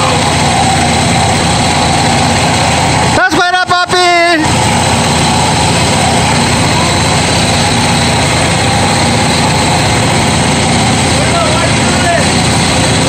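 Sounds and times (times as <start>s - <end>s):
pump engine running under load: 0.0s - 13.0s.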